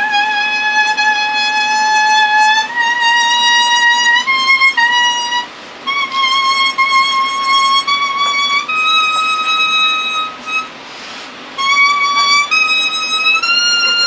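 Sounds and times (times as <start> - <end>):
grass-leaf whistle melody: 0.0 - 14.0.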